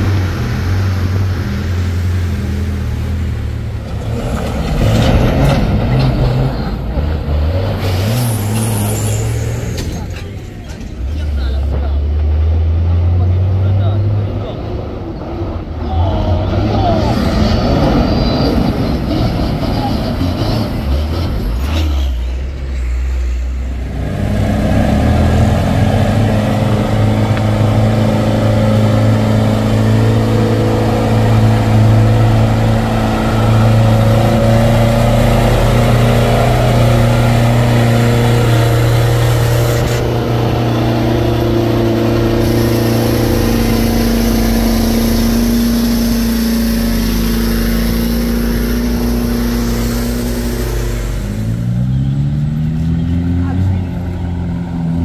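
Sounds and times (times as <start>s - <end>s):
truck engines droning uphill: 0.0s - 55.0s.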